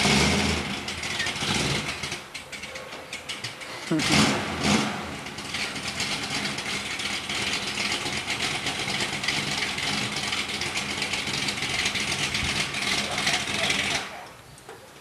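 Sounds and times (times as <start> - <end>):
engine revving: 0.0 - 2.3, 3.3 - 14.2
car engine idling: 0.0 - 14.8.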